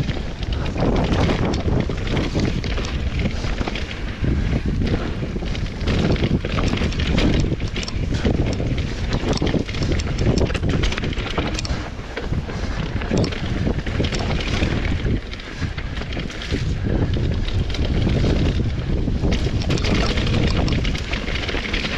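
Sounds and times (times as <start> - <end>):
bike clicks and knocks: 0.0 - 21.9
wind rushing over microphone: 0.0 - 21.9.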